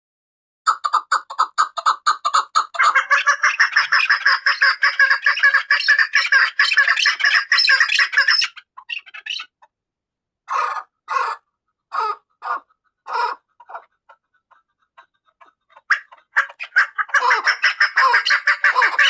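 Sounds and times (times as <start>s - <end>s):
chukar partridge calling: 0.7s - 9.7s, 10.5s - 13.9s, 15.4s - 19.0s.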